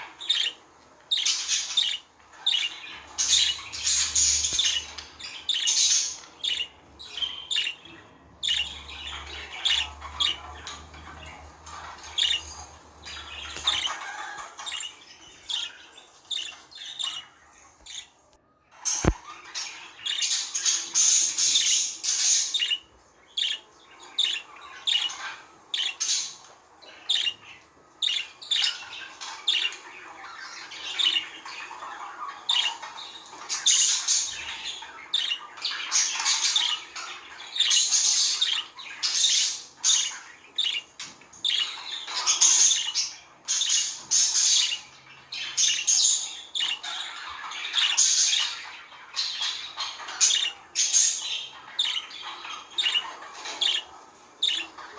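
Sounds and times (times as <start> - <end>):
budgies chirping and chattering: 0.0 - 54.9.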